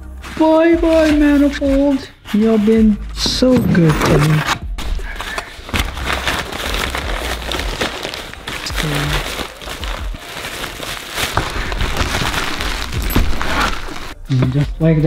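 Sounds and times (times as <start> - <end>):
bubble wrap crinkling: 0.1 - 14.4
packing paper crumpling: 0.3 - 14.2.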